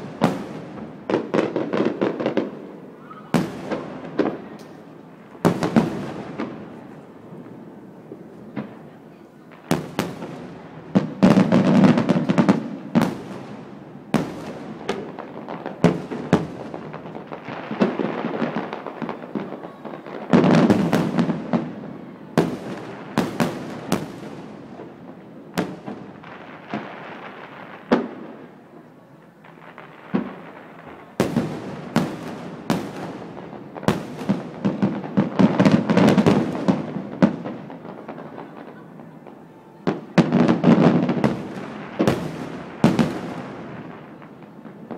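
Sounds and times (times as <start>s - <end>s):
fireworks bangs: 0.0s - 44.9s
fireworks crackling and rumbling: 0.0s - 44.9s.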